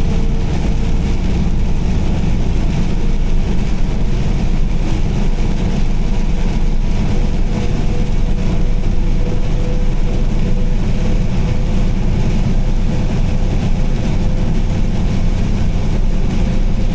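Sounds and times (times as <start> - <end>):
engine and tyre rumble: 0.0 - 16.9.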